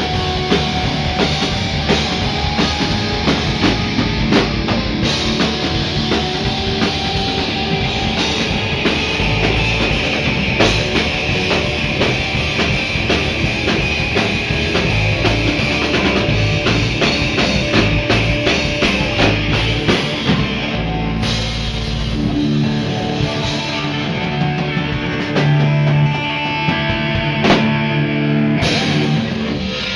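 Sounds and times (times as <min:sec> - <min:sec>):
bass guitar: 0:00.0 - 0:29.9
drum kit beat: 0:00.0 - 0:29.9
electric guitar: 0:00.0 - 0:29.9.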